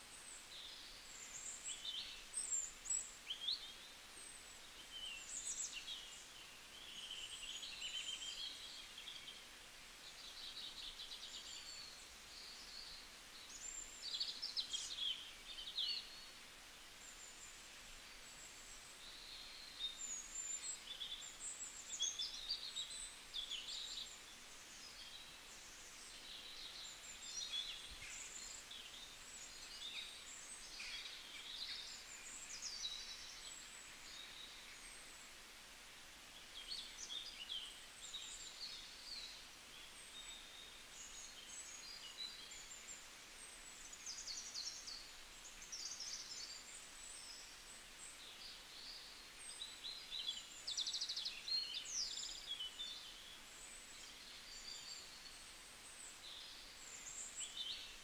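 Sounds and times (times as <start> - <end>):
faint steady hiss: 0.0 - 58.0
small birds twittering: 0.0 - 58.0.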